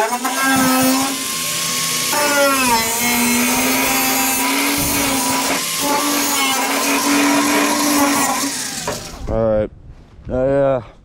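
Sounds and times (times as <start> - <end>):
power grinder whining: 0.0 - 9.2.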